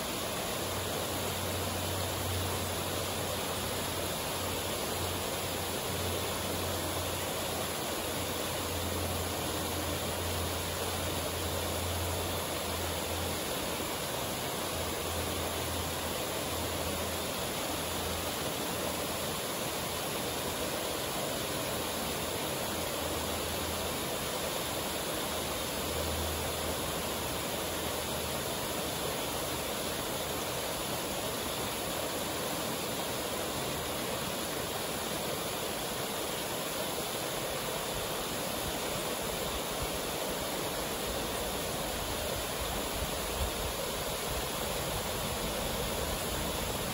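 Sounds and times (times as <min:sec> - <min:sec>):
waterfall rushing over rock: 0:00.0 - 0:46.9.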